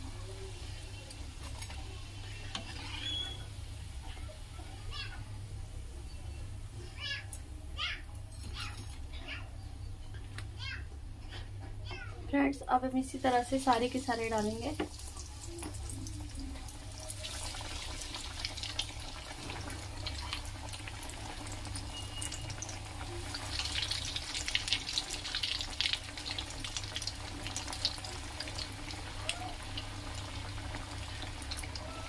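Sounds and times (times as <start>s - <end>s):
food deep-frying in oil: 0.0s - 7.4s, 12.4s - 32.0s.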